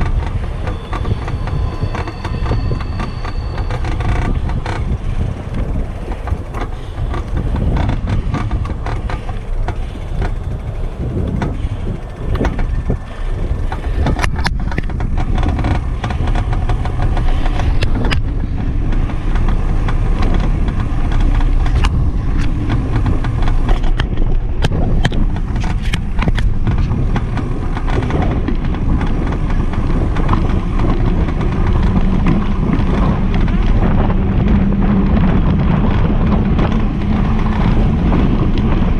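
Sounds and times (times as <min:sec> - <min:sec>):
bicycle clicks and rattles: 0:00.0 - 0:38.9
wind buffeting microphone: 0:00.0 - 0:38.9.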